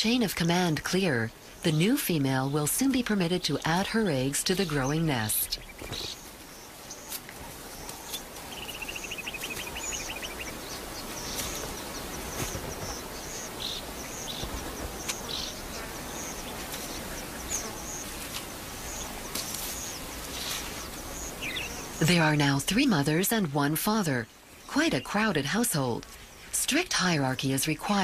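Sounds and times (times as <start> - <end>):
small birds chirping: 0.0 - 28.0
steady background hiss: 0.0 - 28.0.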